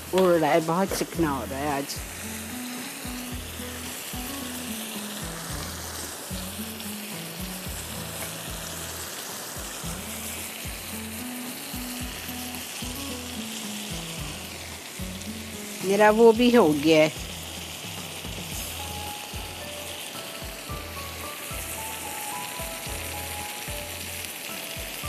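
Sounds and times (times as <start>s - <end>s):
chicken sizzling in a grill pan: 0.0s - 25.0s
background music with bass line: 1.2s - 6.8s, 7.4s - 11.2s, 11.8s - 24.2s.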